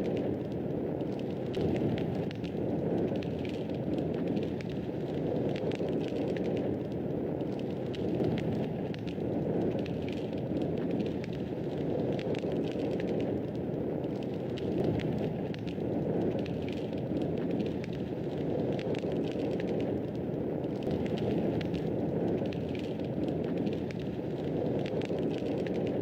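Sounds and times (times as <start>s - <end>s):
fire crackling: 0.0s - 26.0s
low rush of flames: 0.0s - 26.0s.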